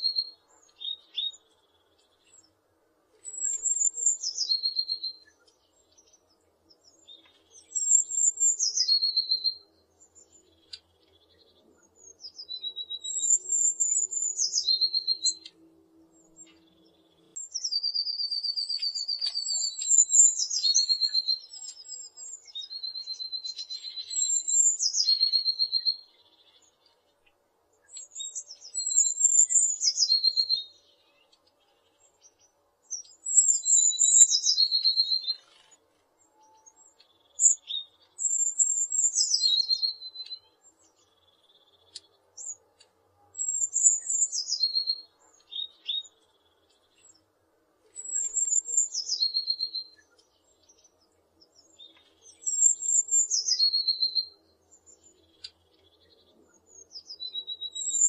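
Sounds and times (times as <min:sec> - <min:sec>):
bird singing: 0:00.0 - 0:02.6, 0:03.2 - 0:58.0.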